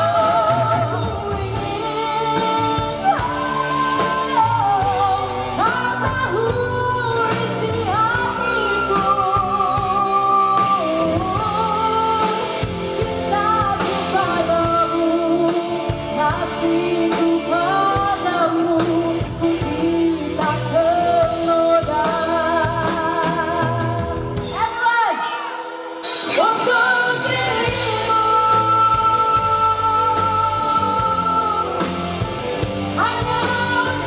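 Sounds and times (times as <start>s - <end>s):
band accompaniment: 0.0s - 34.0s
pop duet singing: 0.0s - 34.0s.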